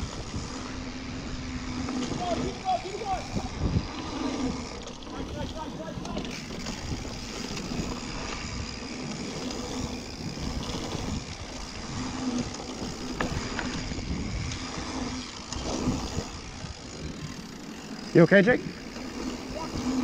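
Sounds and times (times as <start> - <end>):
wind on microphone: 0.0 - 17.6
bike rattling and clicking: 0.0 - 20.0.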